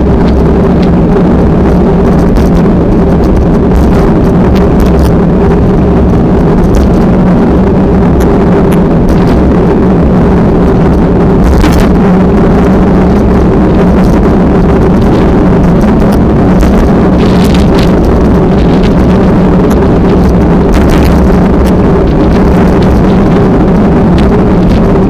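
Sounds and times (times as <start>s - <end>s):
steady drone: 0.0s - 25.0s
wind buffeting microphone: 0.0s - 25.0s.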